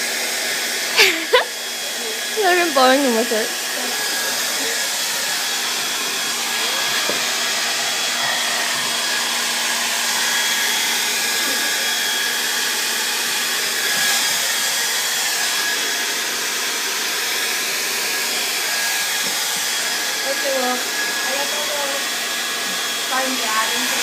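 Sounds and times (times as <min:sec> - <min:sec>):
hair dryer running: 0:00.0 - 0:24.0.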